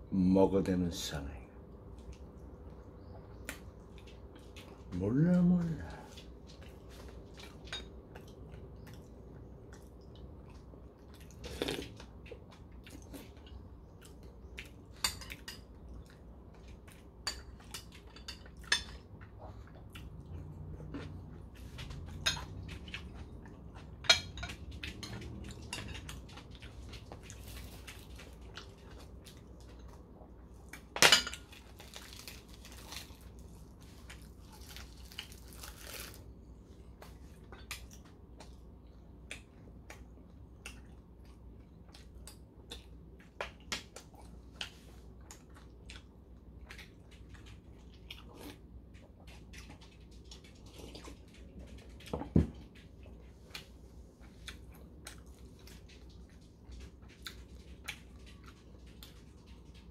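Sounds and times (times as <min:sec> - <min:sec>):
chewing and mouth noises: 0:01.8 - 0:59.9.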